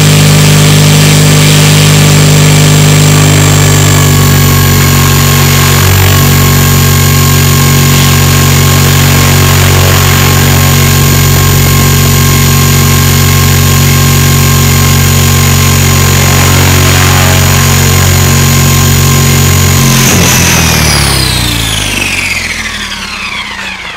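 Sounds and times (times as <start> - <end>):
helicopter motor and rotors whining: 0.0 - 23.9.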